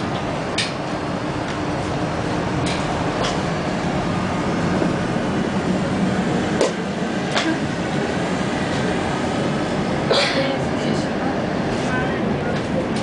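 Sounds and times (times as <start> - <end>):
tram running on rails: 0.0 - 13.0.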